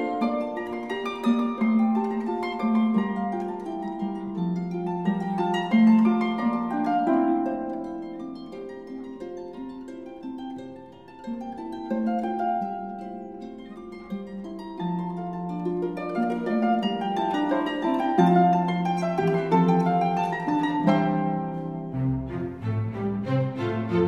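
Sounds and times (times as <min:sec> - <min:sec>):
gentle sustained melody: 0:00.0 - 0:24.0.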